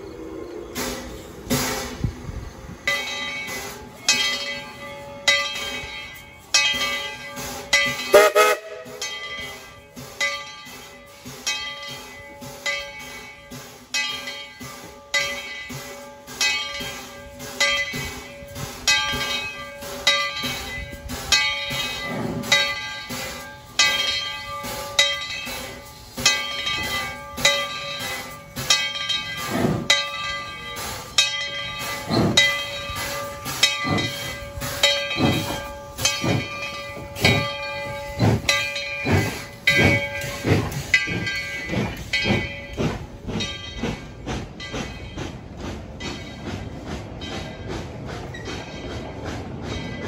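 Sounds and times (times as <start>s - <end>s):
steam locomotive exhaust chuffs: 0.0s - 50.0s.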